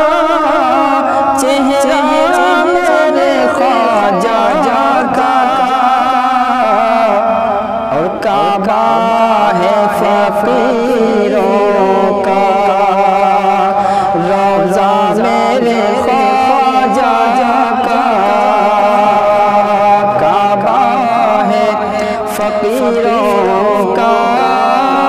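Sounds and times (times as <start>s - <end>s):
man singing devotional song: 0.0s - 25.0s.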